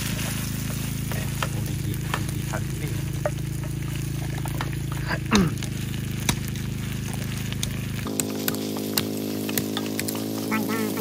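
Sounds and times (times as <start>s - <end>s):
food frying with crackles: 0.0s - 11.0s
low hum: 0.0s - 11.0s.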